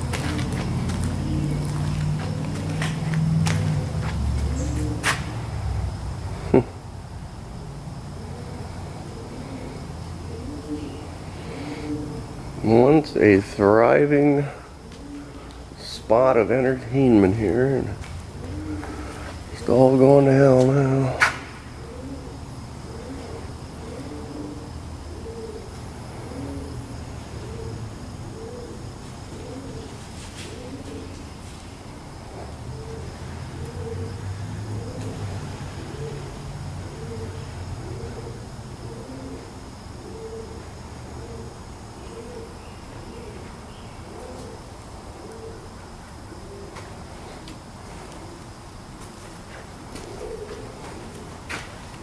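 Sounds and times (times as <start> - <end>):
pigeons cooing: 0.0 - 52.0.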